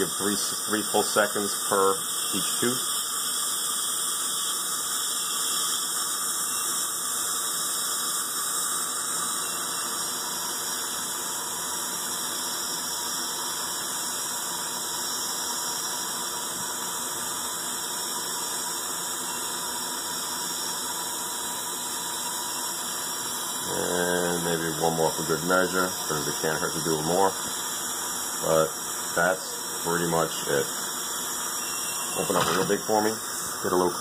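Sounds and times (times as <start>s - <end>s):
dental suction hiss: 0.0s - 34.0s.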